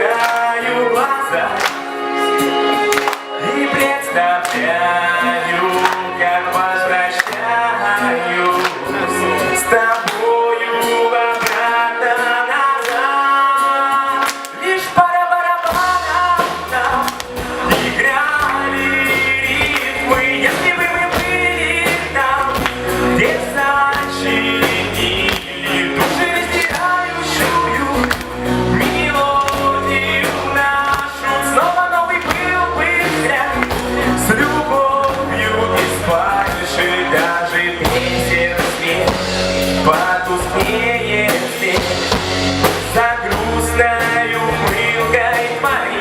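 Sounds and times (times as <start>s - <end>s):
live rock band playing: 0.0s - 46.0s
person singing: 0.0s - 46.0s.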